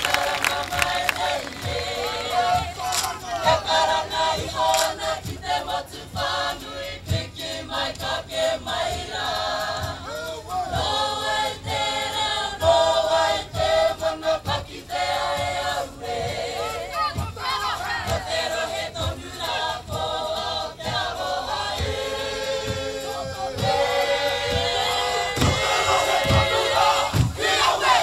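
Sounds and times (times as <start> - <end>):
group singing in unison: 0.0 - 28.0
low beat: 0.0 - 28.0.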